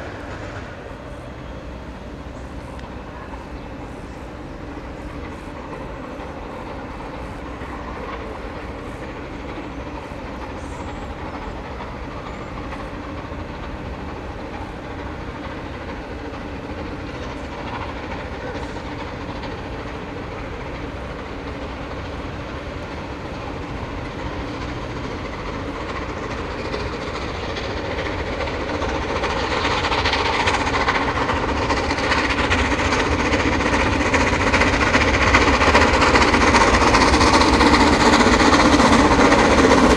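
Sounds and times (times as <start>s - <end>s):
train approaching: 0.0s - 39.9s.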